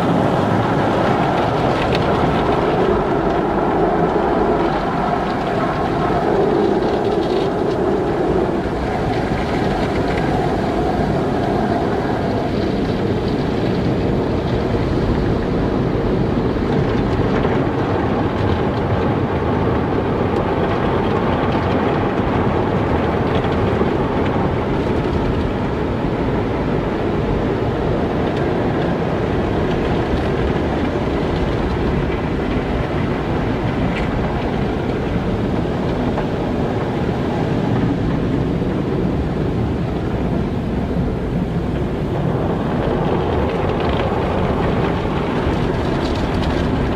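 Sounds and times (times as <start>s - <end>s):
car wash water and machinery rushing: 0.0s - 46.9s.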